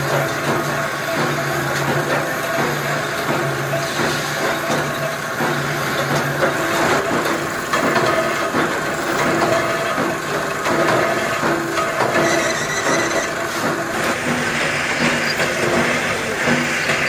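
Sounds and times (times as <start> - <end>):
machinery clicks and clatter: 0.0 - 17.0
machinery hum: 0.0 - 17.0.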